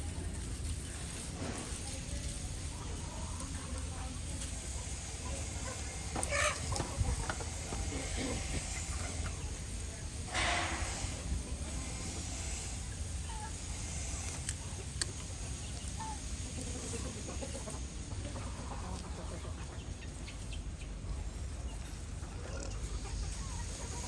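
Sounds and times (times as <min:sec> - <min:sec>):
chickens clucking faintly: 0:00.0 - 0:24.0.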